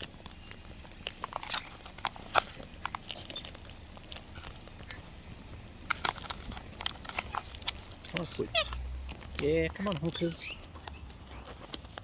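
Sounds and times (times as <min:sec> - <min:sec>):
birds crunching seed: 0:00.0 - 0:12.0.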